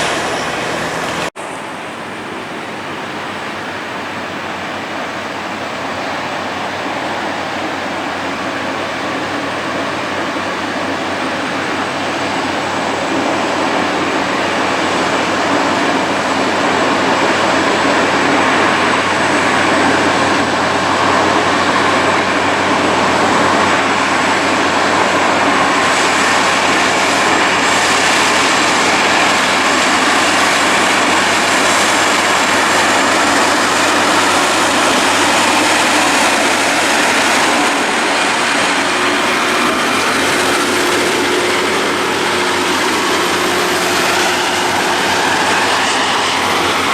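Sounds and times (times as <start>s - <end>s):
heavy trucks passing: 0.0s - 46.9s.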